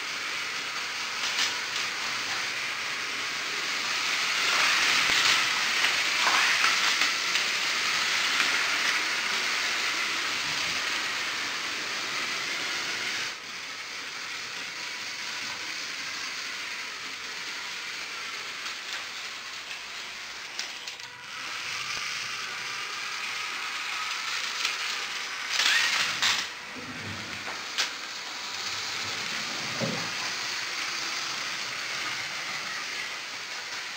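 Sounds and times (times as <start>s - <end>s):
toy train motors whirring and rattling: 0.0s - 33.9s.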